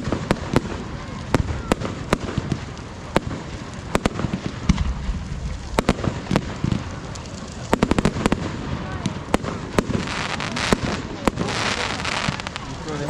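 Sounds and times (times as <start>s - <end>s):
fireworks bangs: 0.0s - 13.0s
fireworks crackle: 0.0s - 13.0s.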